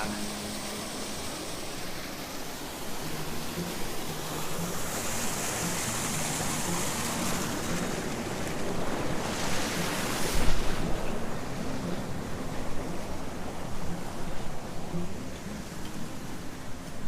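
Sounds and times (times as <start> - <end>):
water rushing over waterfall: 0.0 - 17.0
wind buffeting microphone: 0.6 - 17.0.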